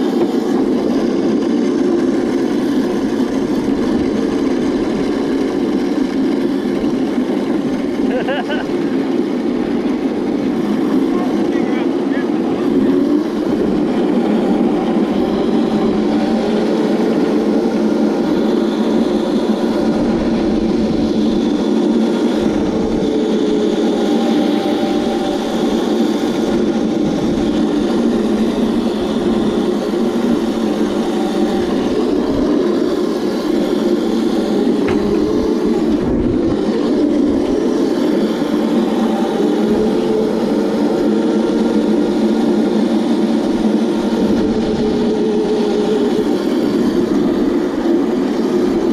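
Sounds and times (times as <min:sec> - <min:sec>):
electric kart motor whine: 0:00.0 - 0:48.9
loud noisy rumble: 0:00.0 - 0:48.9.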